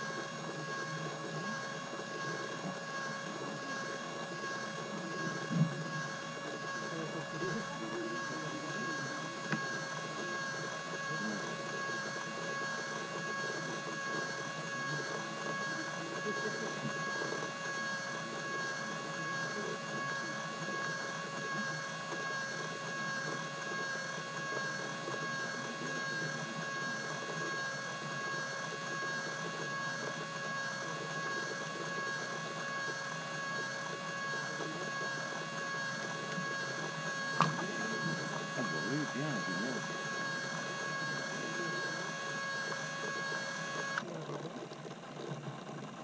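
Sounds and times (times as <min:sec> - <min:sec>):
electric motor whine: 0:00.0 - 0:46.0.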